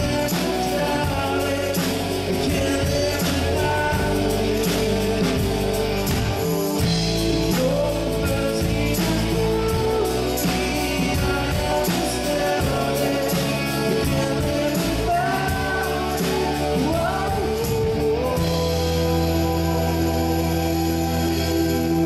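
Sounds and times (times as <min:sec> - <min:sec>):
acoustic guitar: 0:00.0 - 0:22.0
bass guitar: 0:00.0 - 0:22.0
electric guitar: 0:00.0 - 0:22.0
man singing: 0:00.0 - 0:22.0.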